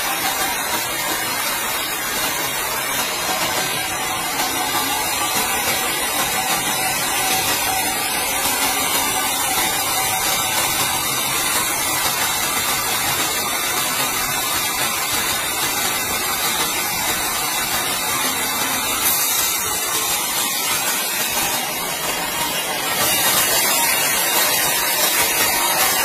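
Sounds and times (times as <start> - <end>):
band saw rasping through wood: 0.0 - 26.0
saw mill machine running: 0.0 - 26.0.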